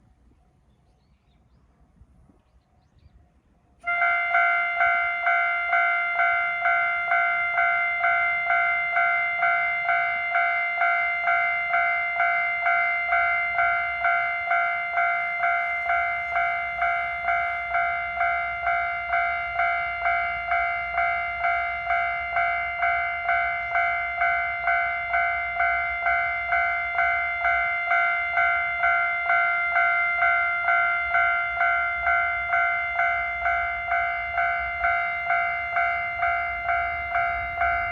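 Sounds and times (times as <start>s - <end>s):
level crossing bell alarm: 3.8s - 37.9s.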